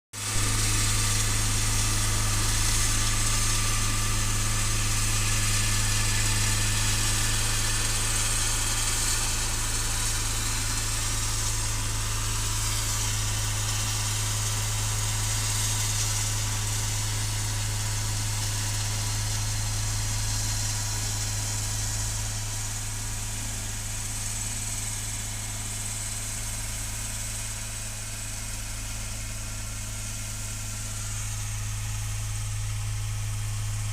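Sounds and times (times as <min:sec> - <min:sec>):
road roller engine humming: 0:00.2 - 0:33.9.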